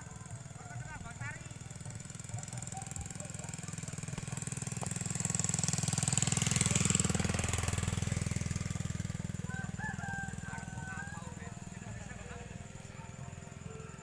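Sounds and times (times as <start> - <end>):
motor buzzing passing by: 0.0 - 14.0.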